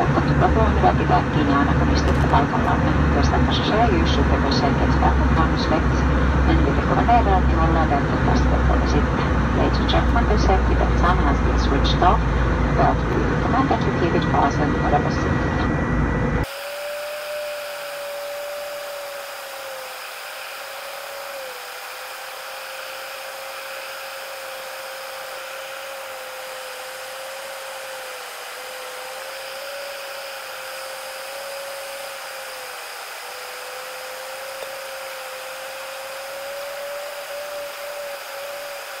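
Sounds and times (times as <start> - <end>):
wavering whine: 0.0 - 39.0.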